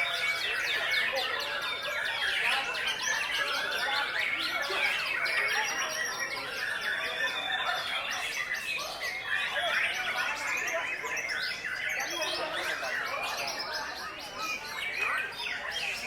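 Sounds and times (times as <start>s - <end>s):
songbirds singing whistled phrases: 0.0s - 16.0s.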